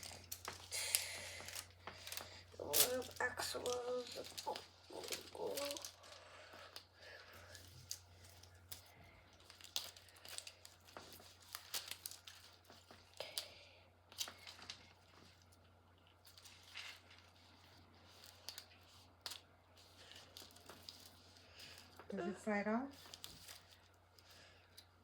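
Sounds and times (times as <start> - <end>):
packaging crinkling and tearing: 0.0 - 22.2, 22.8 - 25.0.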